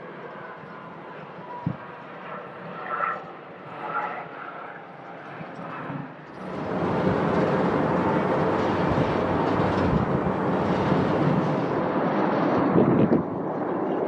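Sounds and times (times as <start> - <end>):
jet engines at high thrust: 0.0 - 14.0.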